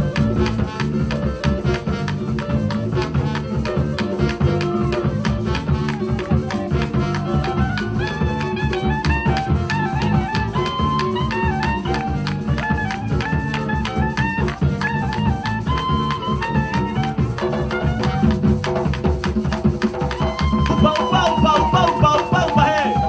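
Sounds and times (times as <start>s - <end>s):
trombone melody: 0.0s - 19.0s
clarinet melody: 0.0s - 23.0s
drums: 0.0s - 23.0s
shakers: 0.0s - 23.0s.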